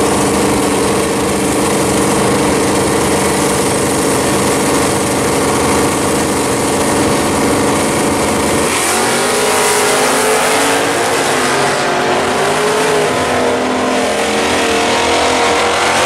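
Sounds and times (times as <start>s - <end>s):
drag racing cars at full throttle: 0.0s - 16.0s.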